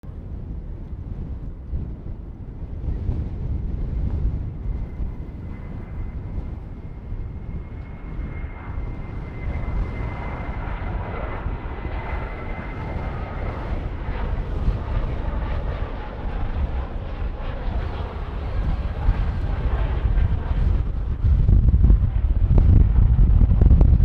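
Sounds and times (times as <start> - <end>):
wind buffeting microphone: 0.0 - 24.0
jet engine high whine: 0.1 - 24.0
jet engine rush: 0.1 - 24.0.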